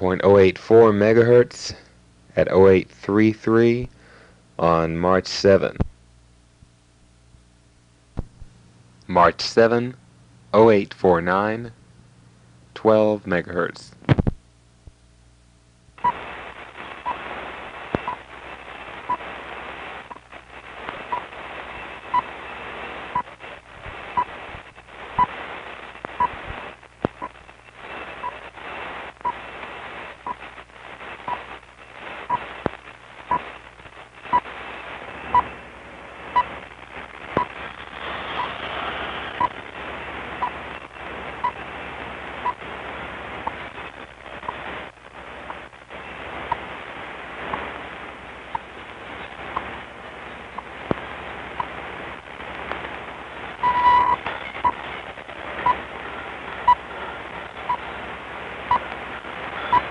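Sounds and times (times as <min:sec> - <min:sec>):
radio hiss: 0:00.0 - 0:06.0, 0:09.1 - 0:11.8, 0:16.0 - 0:59.9
static crackles: 0:00.0 - 0:59.9.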